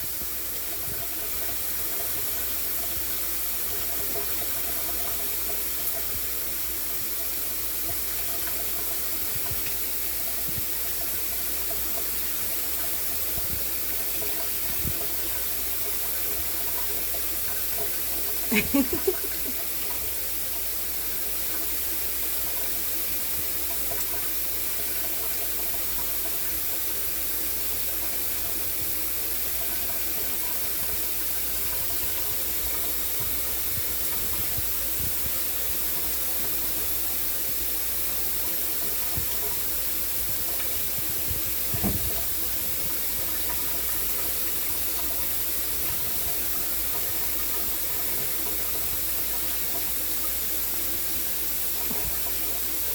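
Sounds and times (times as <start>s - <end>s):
shower spray hissing: 0.0s - 52.9s.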